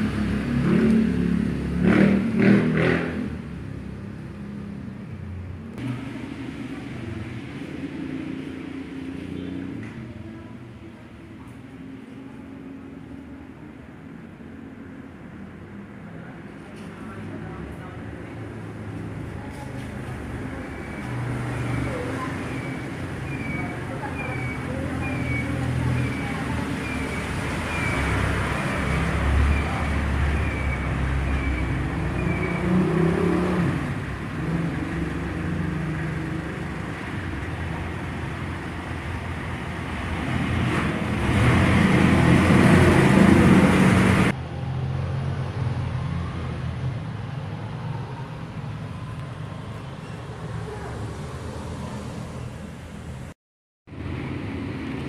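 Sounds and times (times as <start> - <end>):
low road traffic rumble: 0.0 - 55.0.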